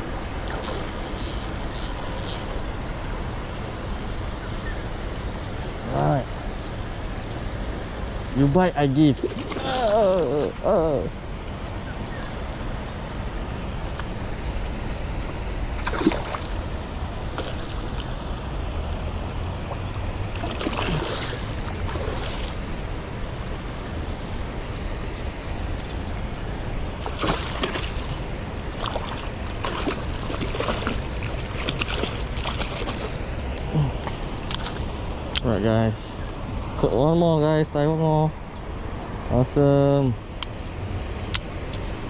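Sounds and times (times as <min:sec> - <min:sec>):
low rumbling outdoor noise: 0:00.0 - 0:42.0.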